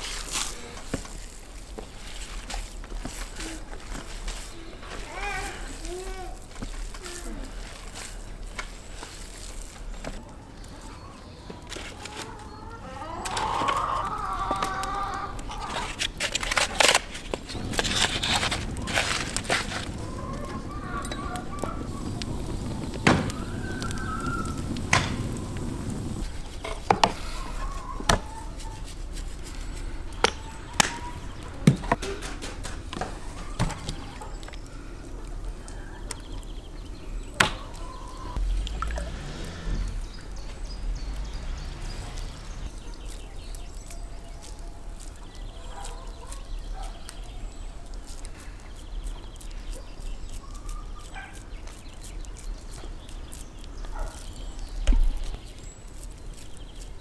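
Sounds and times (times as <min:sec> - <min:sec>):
outdoor background noise: 0:00.0 - 0:57.0.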